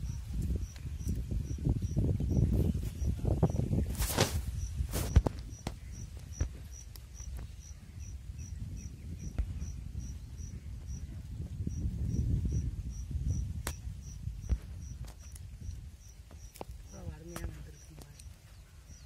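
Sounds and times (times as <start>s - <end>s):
insect chirping: 0.0s - 19.0s.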